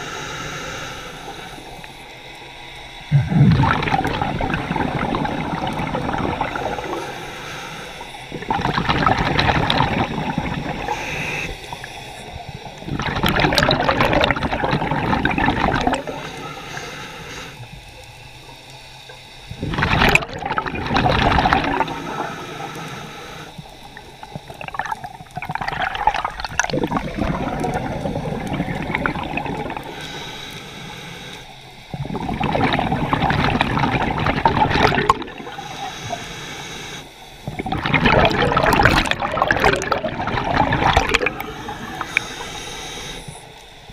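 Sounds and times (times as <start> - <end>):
exhaled bubbles underwater: 3.0 - 17.9, 18.5 - 30.5, 31.8 - 43.9.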